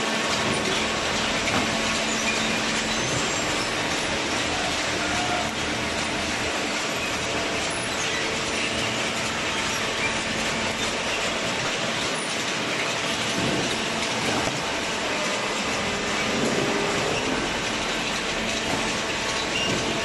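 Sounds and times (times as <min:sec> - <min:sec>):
hydraulic baler running: 0:00.0 - 0:20.0.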